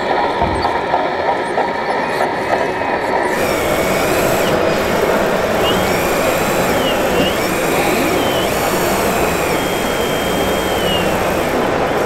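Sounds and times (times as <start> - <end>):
noisy background: 0.0 - 12.0
hydraulic pump whining: 2.2 - 12.0.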